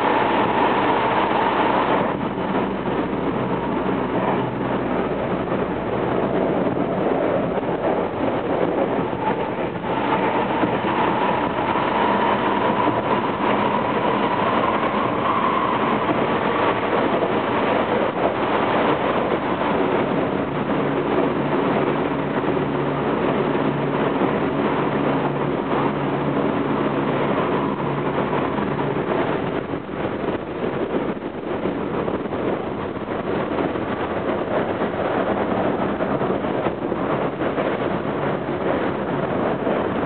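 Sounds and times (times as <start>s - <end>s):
train rumbling at speed: 0.0s - 40.0s
whine: 0.0s - 40.0s.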